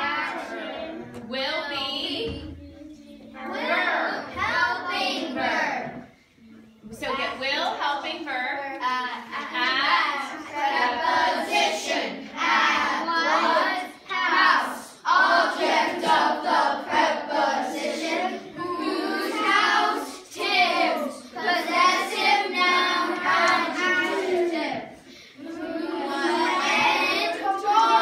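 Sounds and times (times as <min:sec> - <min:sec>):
children chanting in unison: 0:00.0 - 0:01.2, 0:03.4 - 0:06.2, 0:09.4 - 0:28.0.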